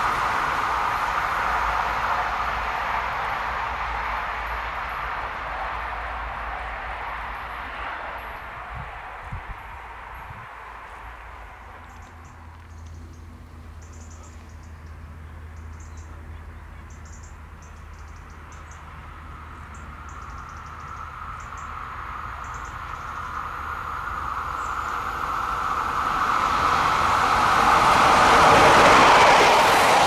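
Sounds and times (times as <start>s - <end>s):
train approaching on rails: 0.0s - 30.0s.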